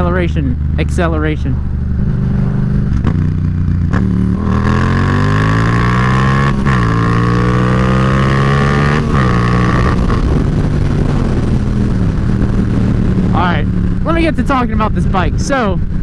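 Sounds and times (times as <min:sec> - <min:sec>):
motorcycle engine accelerating: 0:00.0 - 0:16.0
wind rushing: 0:01.5 - 0:16.0.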